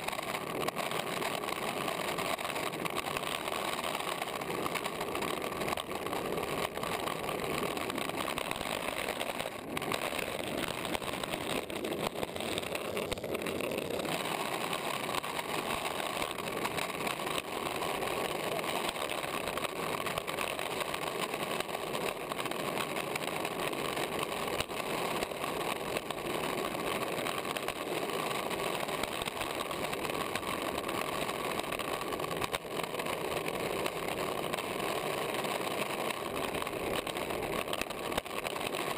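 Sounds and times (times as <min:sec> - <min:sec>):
skateboard wheels rolling on asphalt: 0:00.0 - 0:38.9.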